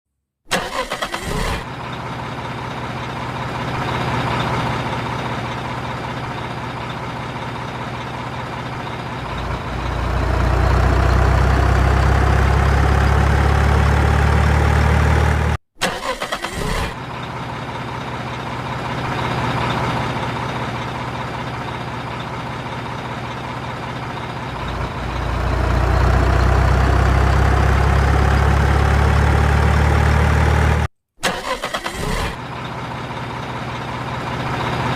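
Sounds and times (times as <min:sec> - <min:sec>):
truck engine idling and revving: 0:00.5 - 0:34.9.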